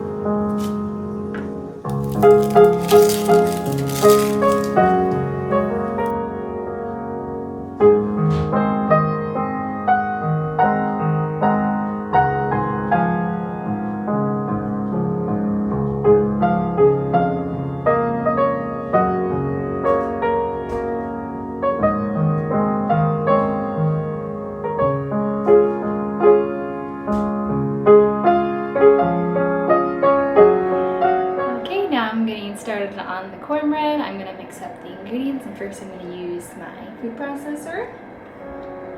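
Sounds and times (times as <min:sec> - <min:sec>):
slow gentle piano melody: 0:00.0 - 0:38.9.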